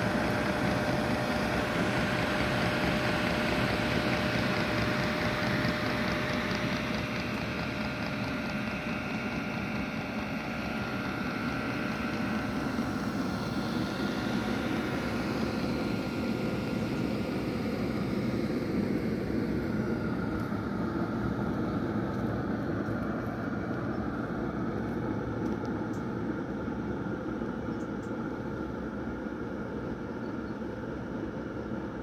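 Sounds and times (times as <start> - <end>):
heater blower rushing: 0.0 - 27.3
faint whine: 0.0 - 32.0.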